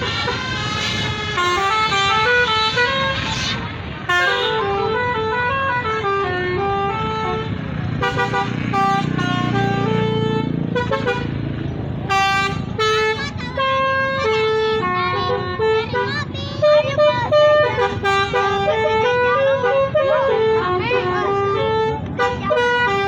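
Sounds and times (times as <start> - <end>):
multi-tone bus horn melody: 0.0 - 23.0.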